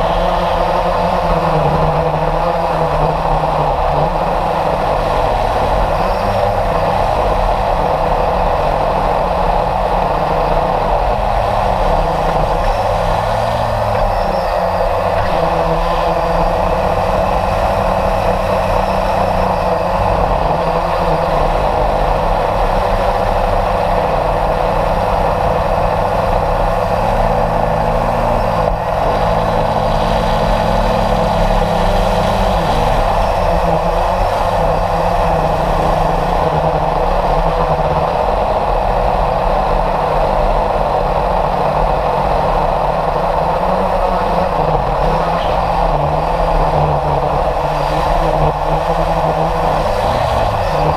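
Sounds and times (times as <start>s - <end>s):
model airplane motor and wind rush: 0.0s - 50.9s.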